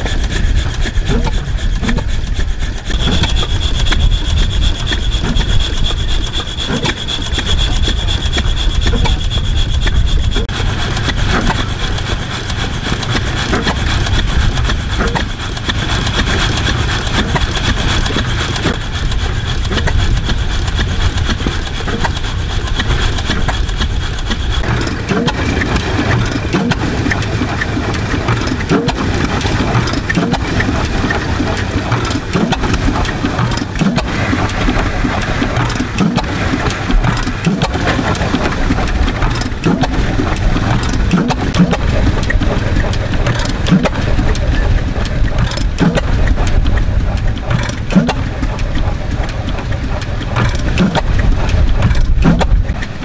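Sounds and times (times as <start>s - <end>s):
stationary engine chugging: 0.0s - 53.0s.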